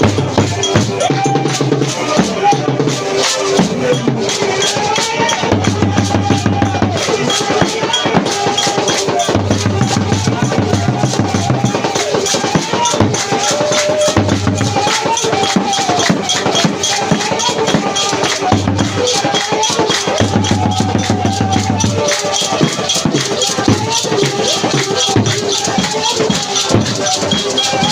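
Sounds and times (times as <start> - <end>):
upbeat music with drums: 0.0 - 27.9.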